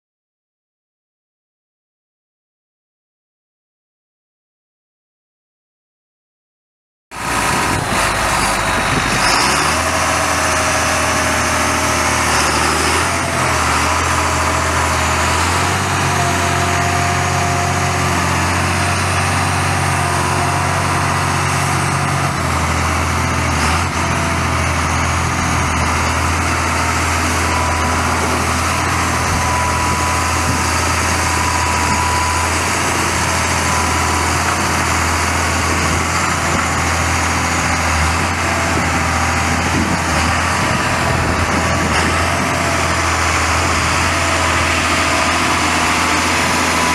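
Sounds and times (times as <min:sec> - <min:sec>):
tractor diesel engine running: 0:07.1 - 0:46.9.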